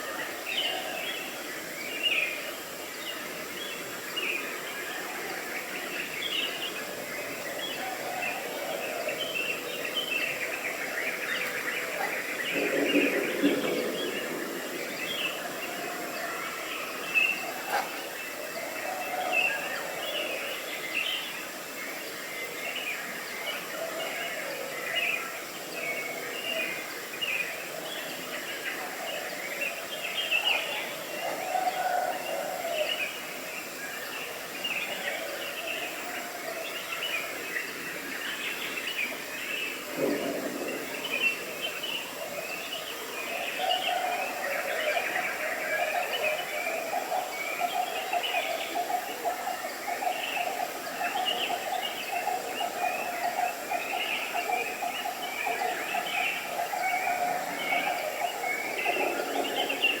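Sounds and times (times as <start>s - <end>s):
birds chirping and twittering: 0.0s - 60.0s.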